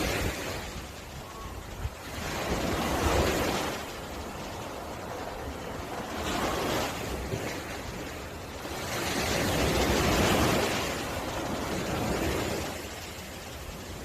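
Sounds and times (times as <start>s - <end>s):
surf washing onto a beach: 0.0s - 14.0s.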